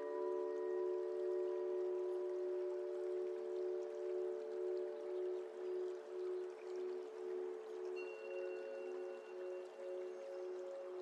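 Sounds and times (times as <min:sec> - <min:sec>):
ambient background music: 0:00.0 - 0:11.0.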